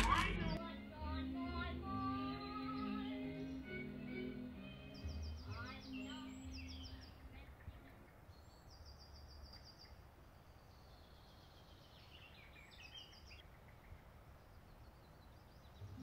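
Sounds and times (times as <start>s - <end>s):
low steady hiss: 0.0s - 16.0s
birdsong: 0.4s - 16.0s.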